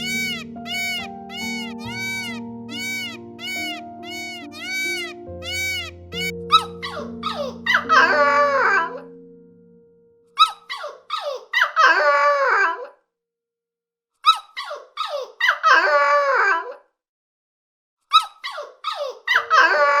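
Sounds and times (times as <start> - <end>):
animal yelping: 0.0 - 9.1, 10.4 - 13.0, 14.2 - 16.8, 18.1 - 20.0.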